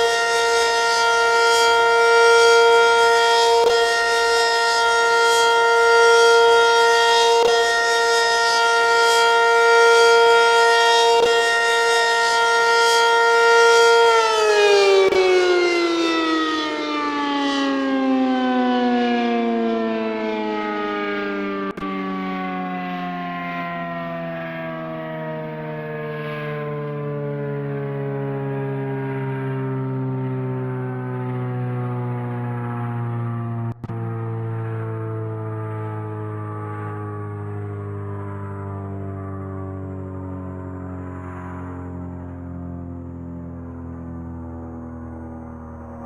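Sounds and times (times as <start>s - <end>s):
warning siren wailing and winding down: 0.0s - 46.0s.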